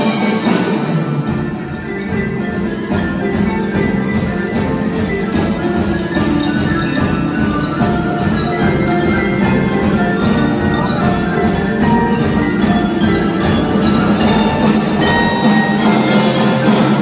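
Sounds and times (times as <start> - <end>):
marimbas and xylophone playing: 0.0 - 17.0.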